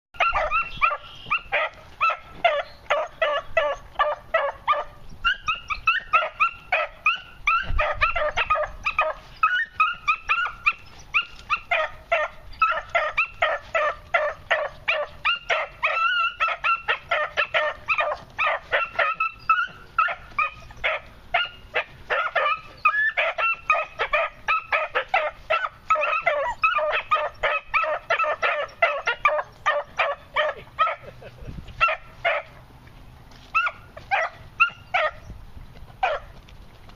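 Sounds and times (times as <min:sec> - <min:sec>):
puppies yelping: 0:00.2 - 0:32.7, 0:33.3 - 0:35.3, 0:36.0 - 0:36.4.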